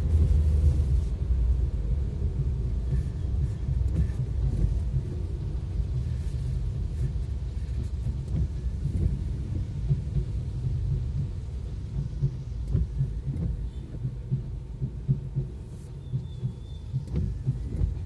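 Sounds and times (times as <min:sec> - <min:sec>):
vehicle driving rumble: 0:00.0 - 0:18.0.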